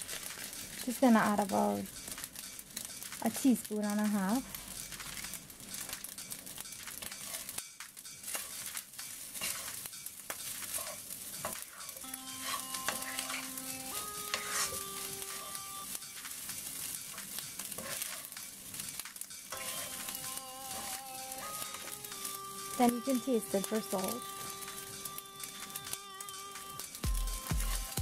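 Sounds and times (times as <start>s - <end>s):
rice and vegetables sizzling in pan: 0.0s - 28.0s
wooden spoon scraping and knocking pan: 0.1s - 23.0s.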